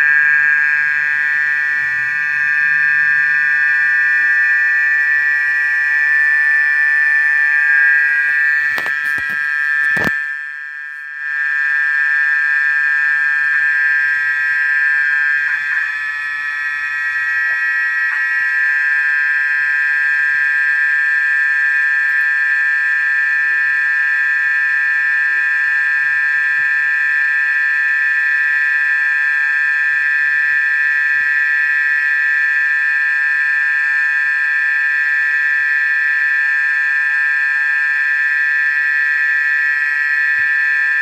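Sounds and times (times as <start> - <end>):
steady high-pitched whine: 0.0 - 41.0.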